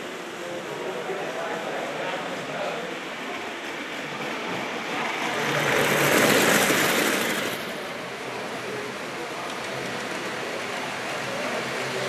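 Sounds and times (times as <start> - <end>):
model train wheels rumbling: 0.0 - 12.0.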